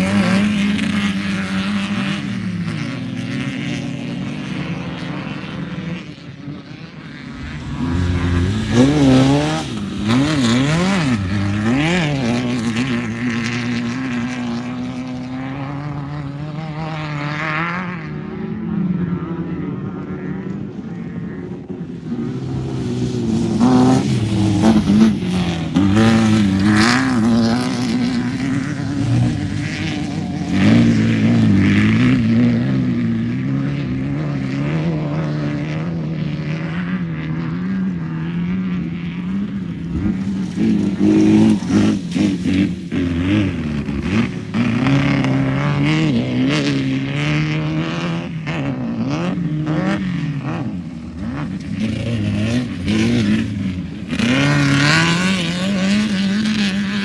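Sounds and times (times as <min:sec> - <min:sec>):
race vehicle engine revving: 0:00.0 - 0:18.6, 0:19.5 - 0:57.0.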